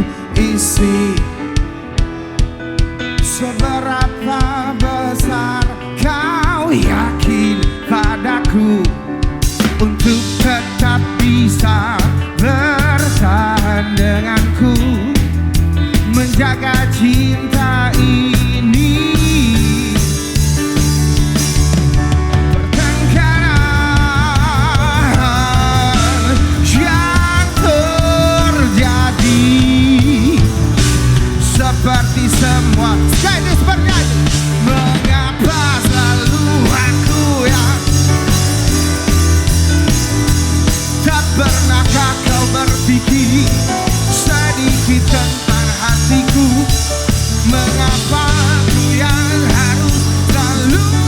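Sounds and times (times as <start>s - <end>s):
man singing with vibrato: 0.0s - 2.2s, 3.1s - 51.0s
live pop-rock band playing: 0.0s - 51.0s.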